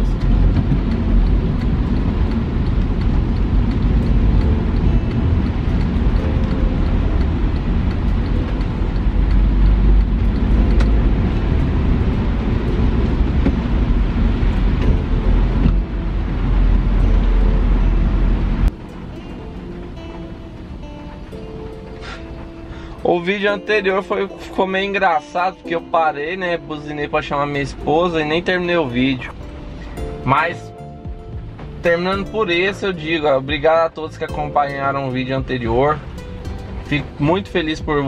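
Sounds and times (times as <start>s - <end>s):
tyre and engine rumble: 0.0s - 38.0s.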